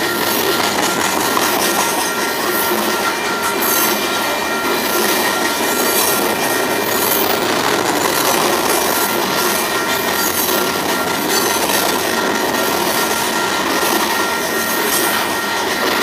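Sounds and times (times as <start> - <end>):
freight train wheel and rail noise: 0.0 - 16.0
high wheel squeal: 0.0 - 16.0.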